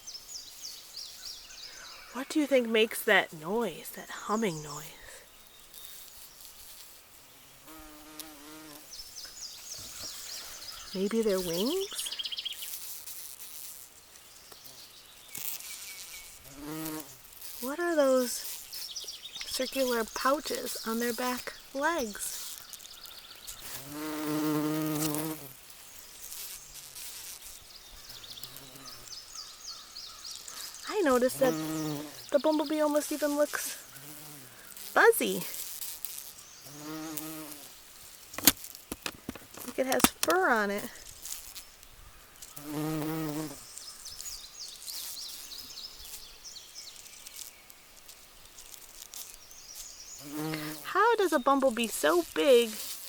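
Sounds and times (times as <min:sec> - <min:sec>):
bumblebee buzzing: 0:00.1 - 0:53.0.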